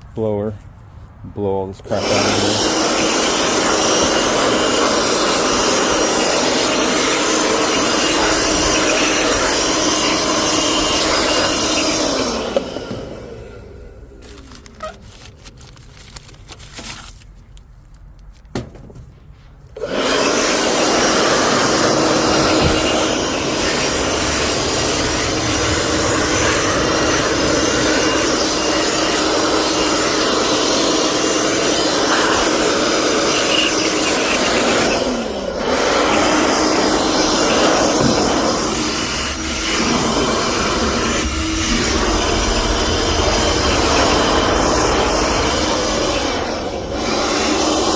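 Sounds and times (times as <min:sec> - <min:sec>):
blower whooshing: 0:01.8 - 0:15.3, 0:19.7 - 0:47.9.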